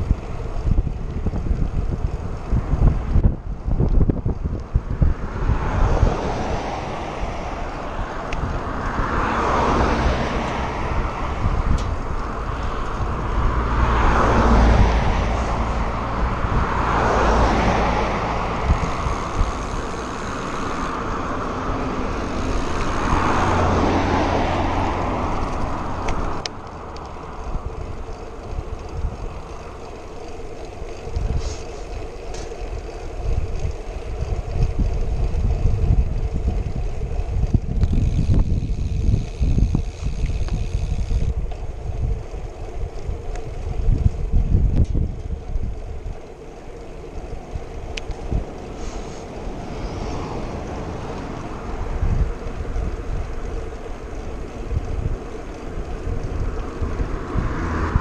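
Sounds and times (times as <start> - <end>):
cars passing: 0.0 - 58.0
wind rumble on microphone: 0.0 - 58.0.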